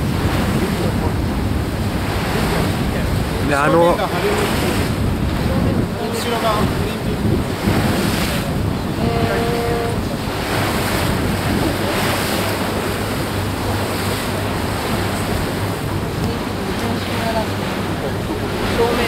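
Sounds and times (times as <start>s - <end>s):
low engine hum: 0.0s - 19.0s
water rushing past boat hull: 0.0s - 19.0s
wind buffeting microphone: 0.0s - 19.0s.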